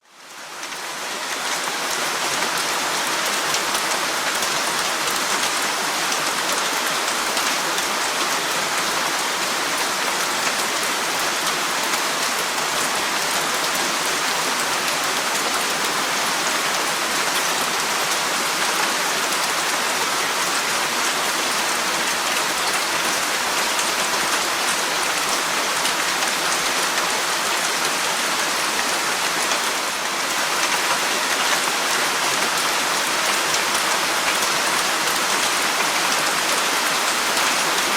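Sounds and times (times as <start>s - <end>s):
rain falling through trees: 0.0s - 37.9s.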